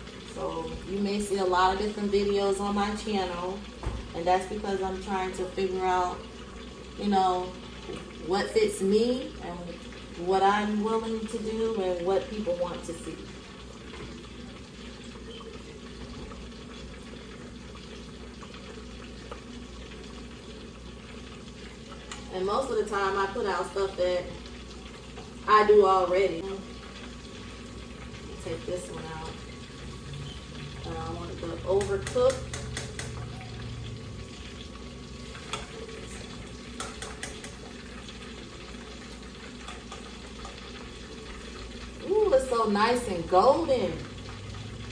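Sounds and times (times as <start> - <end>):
fish deep-frying in oil: 0.0 - 44.9.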